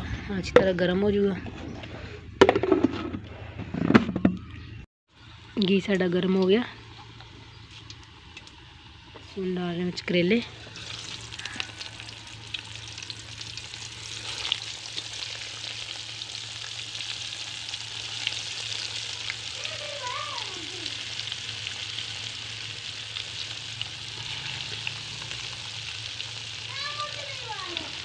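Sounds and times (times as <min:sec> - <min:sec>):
deep-frying sizzle with pops: 0:05.2 - 0:28.0.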